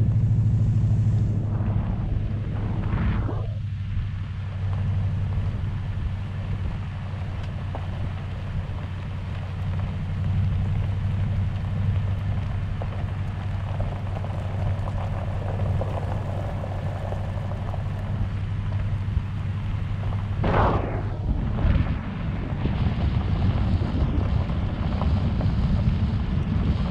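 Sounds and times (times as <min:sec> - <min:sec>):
low engine hum: 0:00.0 - 0:26.9
tyres crackling over gravel: 0:04.6 - 0:26.9.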